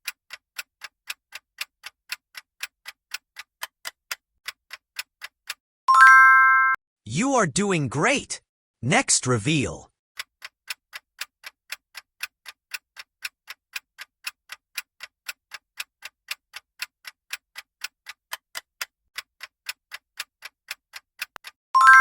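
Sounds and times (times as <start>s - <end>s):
fast clock ticking: 0.0s - 5.6s, 9.0s - 21.6s.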